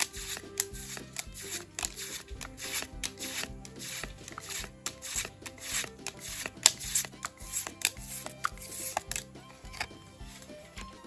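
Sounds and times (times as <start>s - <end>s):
background music: 0.0s - 11.0s
trading cards flipped by hand: 0.0s - 11.0s.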